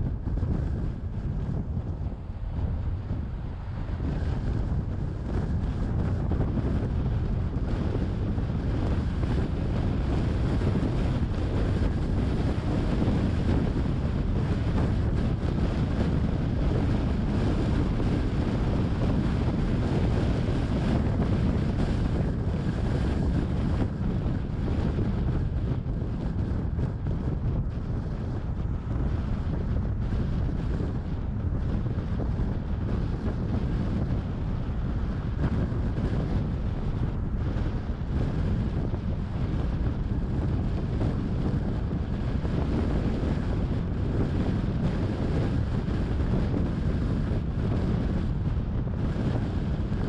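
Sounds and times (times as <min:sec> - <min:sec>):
car driving noise: 0:00.0 - 0:50.0
wind buffeting microphone: 0:00.0 - 0:50.0.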